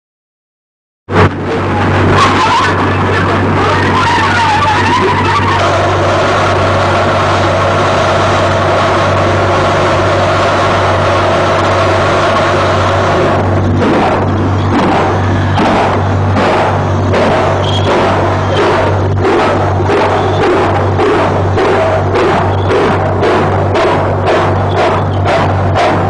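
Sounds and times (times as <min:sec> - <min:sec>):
train running: 0:01.2 - 0:26.0
high-pitched squeal: 0:01.6 - 0:26.0.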